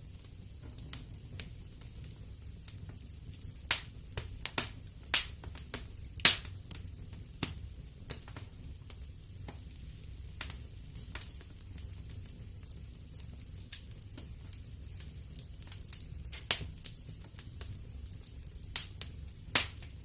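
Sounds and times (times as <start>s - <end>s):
flames low rumble: 0.0s - 20.0s
wood fire crackling and popping: 0.0s - 20.0s.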